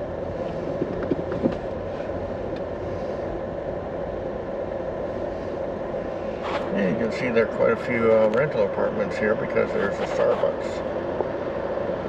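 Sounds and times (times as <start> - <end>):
road and engine drone in a car: 0.0 - 12.0.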